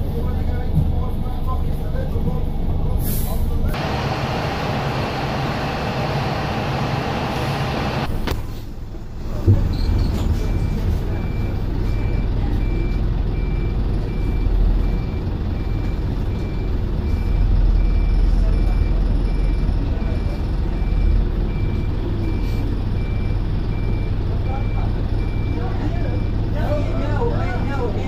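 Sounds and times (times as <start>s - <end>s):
bus diesel engine from inside: 0.0s - 28.0s
bus engines running: 0.0s - 28.0s.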